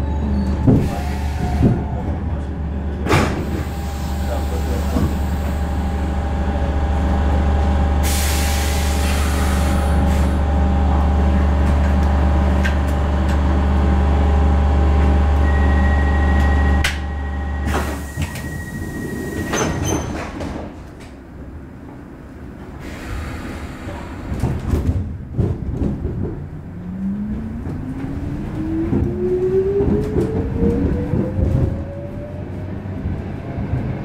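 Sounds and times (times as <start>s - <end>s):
train machinery humming: 0.0s - 34.0s.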